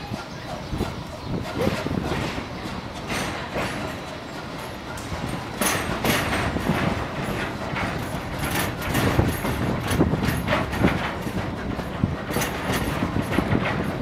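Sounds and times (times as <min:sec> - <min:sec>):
railway carriage rumbling: 0:00.0 - 0:14.0
wheels and couplings clanking: 0:00.0 - 0:14.0.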